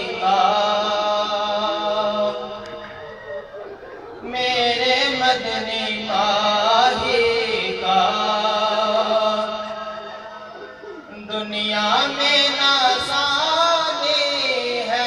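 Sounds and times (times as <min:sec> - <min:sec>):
man singing devotional chant: 0:00.0 - 0:02.8, 0:04.2 - 0:10.5, 0:11.1 - 0:15.0.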